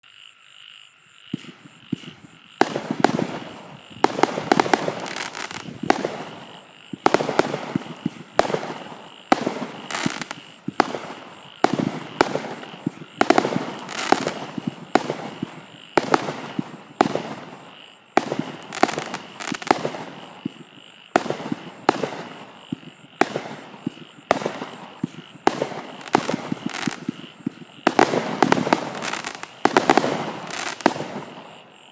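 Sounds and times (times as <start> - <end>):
fireworks popping and crackling: 1.3 - 31.7.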